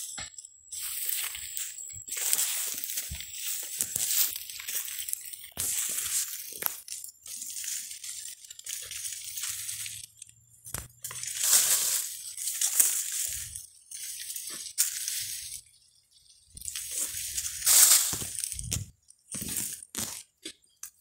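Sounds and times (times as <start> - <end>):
footsteps in dry leaves: 0.0 - 20.3
twigs snapping: 2.1 - 15.4, 16.6 - 21.0.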